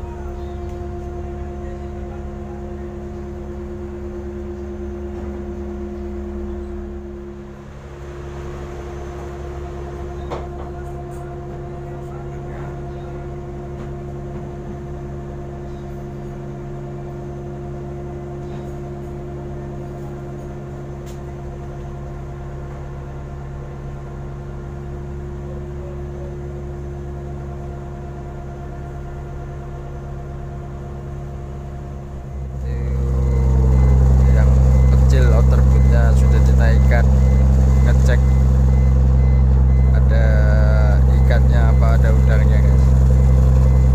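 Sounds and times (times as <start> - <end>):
boat engine humming: 0.0 - 43.9.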